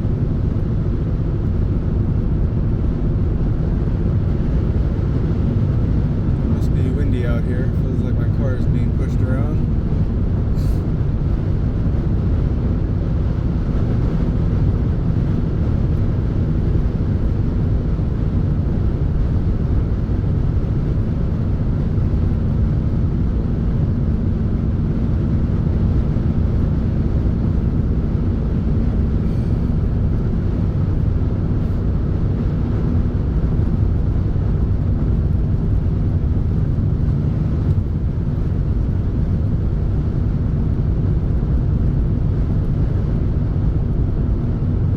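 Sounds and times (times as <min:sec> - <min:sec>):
vehicle rumbling: 0:00.0 - 0:44.9.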